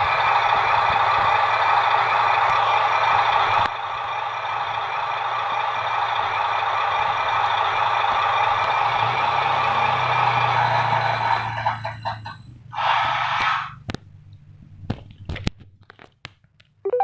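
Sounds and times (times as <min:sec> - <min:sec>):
truck engine sound through small speaker: 0:00.0 - 0:14.7.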